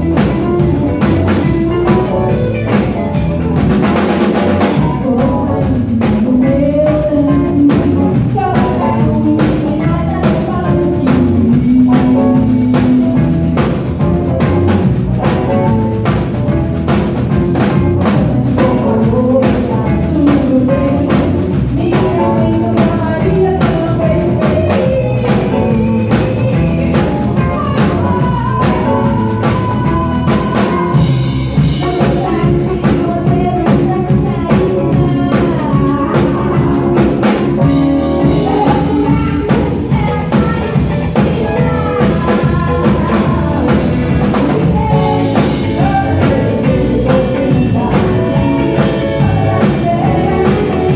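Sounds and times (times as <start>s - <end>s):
person singing: 0.0s - 16.7s, 17.6s - 50.9s
drum kit: 0.0s - 50.9s
live rock band playing: 0.0s - 50.9s.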